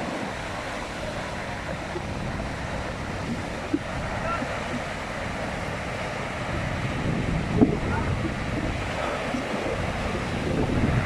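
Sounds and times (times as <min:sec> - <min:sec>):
waves washing on shore: 0:00.0 - 0:11.0
wind buffeting microphone: 0:00.0 - 0:11.0.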